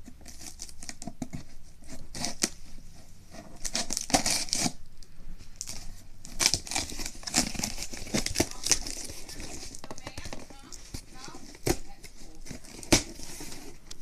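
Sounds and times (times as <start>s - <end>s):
package cut and torn with knife: 0.0s - 2.6s, 3.3s - 4.9s, 5.6s - 14.0s.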